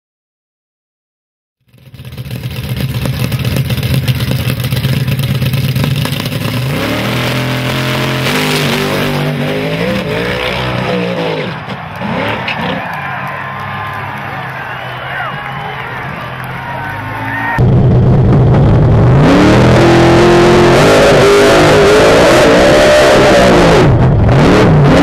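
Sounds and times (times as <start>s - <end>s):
drag racing car engine at full throttle: 1.6s - 25.0s.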